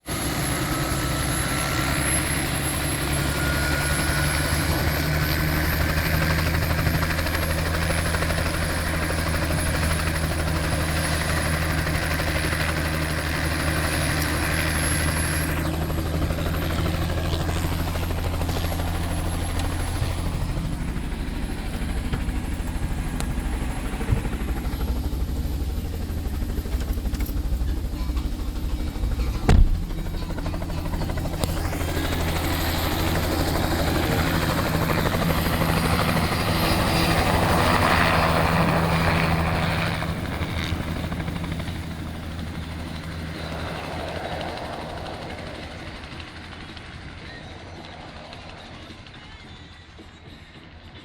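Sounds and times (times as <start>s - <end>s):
helicopter rotor beat: 0.0s - 51.0s
turbine whine: 0.1s - 51.0s.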